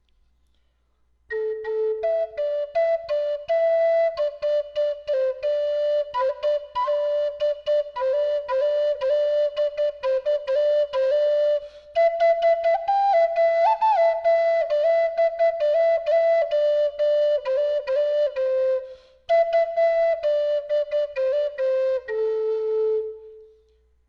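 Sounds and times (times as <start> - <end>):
drone flute melody: 1.3 - 23.5.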